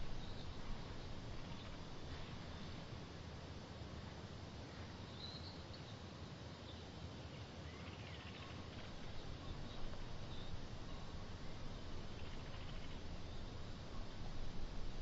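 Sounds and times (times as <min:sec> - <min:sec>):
faint bird chirps: 0:00.0 - 0:03.0, 0:04.6 - 0:15.0
low steady background hiss: 0:00.0 - 0:15.0.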